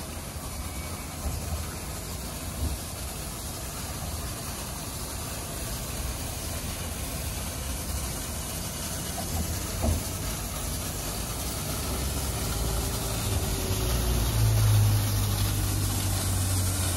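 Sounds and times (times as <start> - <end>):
car wash brushes spinning: 0.0 - 16.9
spraying water: 0.0 - 16.9.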